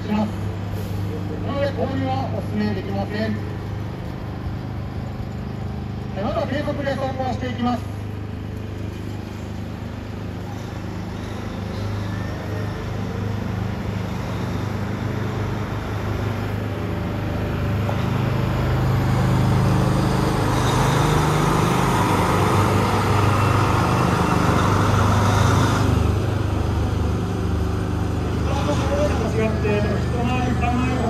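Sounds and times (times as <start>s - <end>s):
diesel truck engine driving past: 0.0s - 31.0s
road noise: 0.0s - 31.0s.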